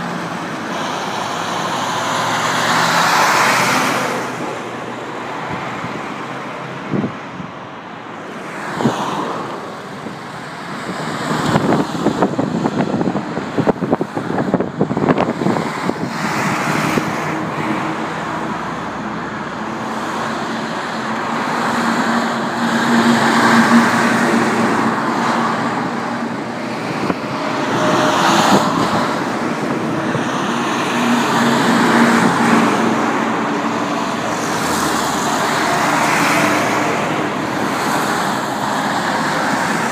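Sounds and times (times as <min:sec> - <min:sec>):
cars passing: 0:00.0 - 0:39.9
diesel trucks driving past: 0:00.0 - 0:39.9.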